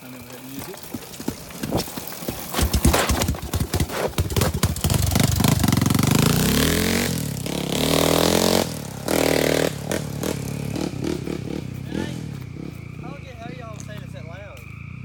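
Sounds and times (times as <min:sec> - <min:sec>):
quad engine revving: 0:00.0 - 0:14.2.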